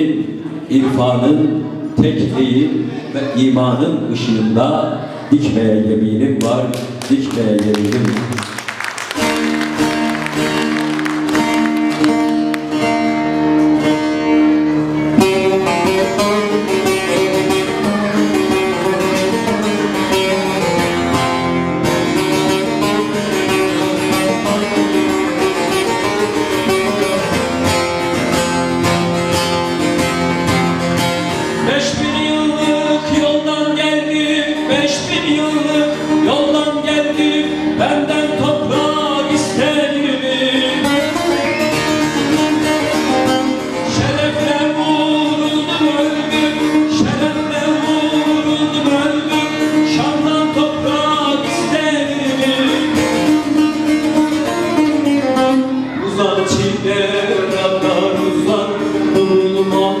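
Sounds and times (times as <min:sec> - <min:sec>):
long-necked lute folk tune: 0:08.3 - 1:00.0.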